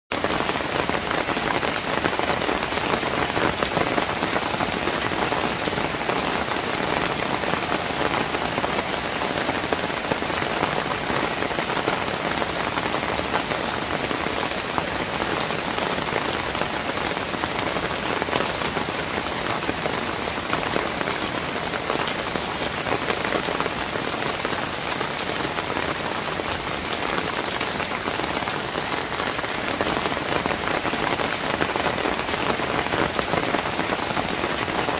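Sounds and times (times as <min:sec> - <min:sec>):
rain on wet pavement: 0:00.1 - 0:34.9.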